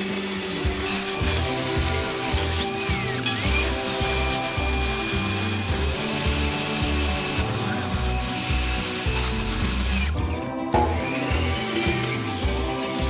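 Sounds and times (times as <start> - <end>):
background music with bass line: 0.0 - 13.0
table saw cutting wood: 0.0 - 13.0.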